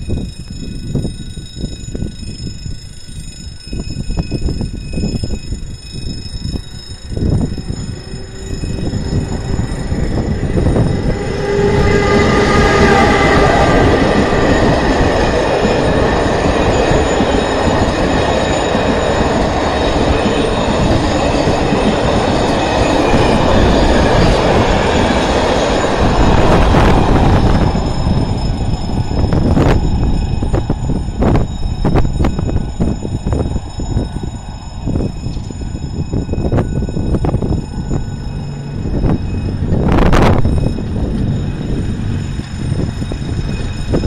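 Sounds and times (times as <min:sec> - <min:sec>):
electric locomotive whine: 0:00.0 - 0:44.0
train coaches rumbling past: 0:00.0 - 0:44.0.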